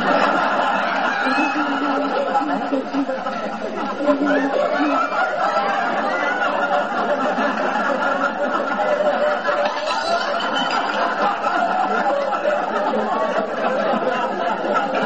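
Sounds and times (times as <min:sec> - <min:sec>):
boys laughing and chattering: 0:00.0 - 0:15.0.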